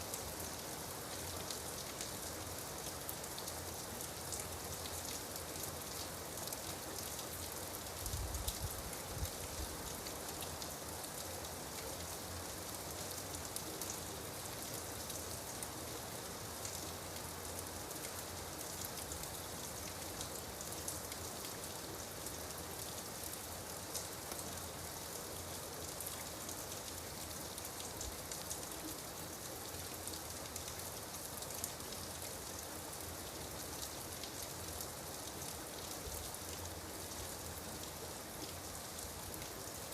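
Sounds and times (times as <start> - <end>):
rain drops pattering: 0.1 - 39.9.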